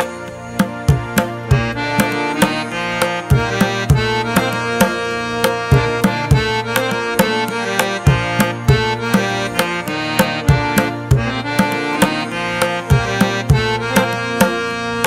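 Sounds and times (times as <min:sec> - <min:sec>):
hand drum beat: 0:00.0 - 0:15.0
reed-like melody: 0:00.0 - 0:15.0.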